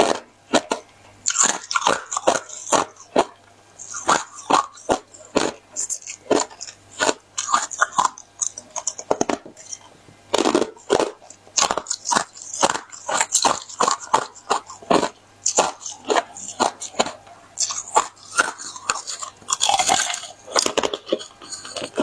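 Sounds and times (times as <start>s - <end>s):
ice being bitten and chewed: 0.0s - 22.0s.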